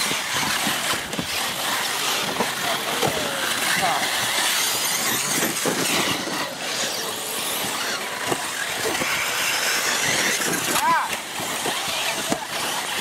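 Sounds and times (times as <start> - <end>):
model race car motors: 0.0 - 13.0.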